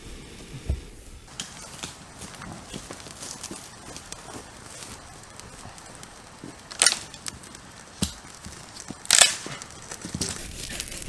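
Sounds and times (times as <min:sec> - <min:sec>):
sharp wood crackles: 0:00.0 - 0:11.0.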